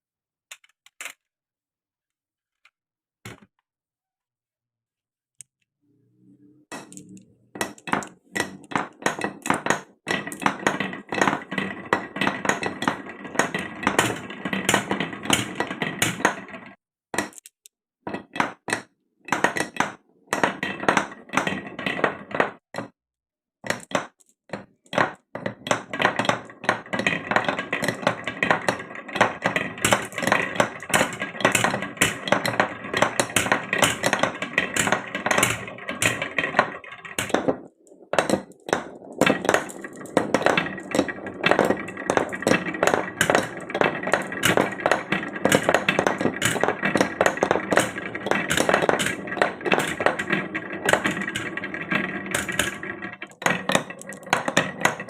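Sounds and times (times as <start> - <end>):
marbles clattering on wood: 6.7 - 23.0, 23.6 - 55.0.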